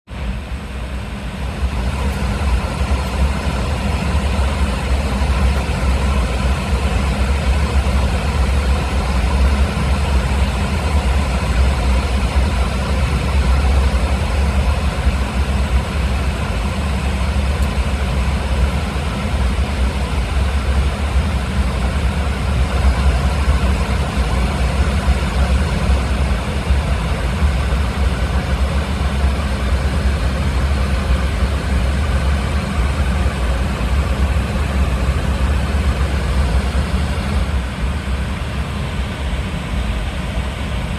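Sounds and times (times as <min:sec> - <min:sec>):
jet engines heard from cabin: 0:00.1 - 0:40.9.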